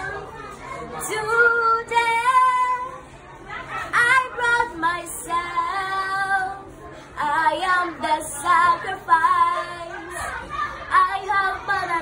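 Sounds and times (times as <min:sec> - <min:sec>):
girl singing: 0:01.0 - 0:03.1, 0:03.9 - 0:12.0.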